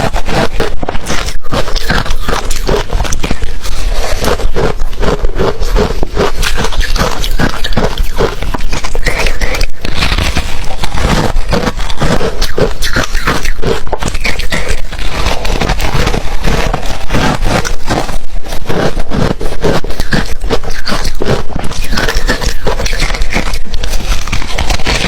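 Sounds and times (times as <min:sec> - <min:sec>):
ice being chewed: 0:00.0 - 0:25.0.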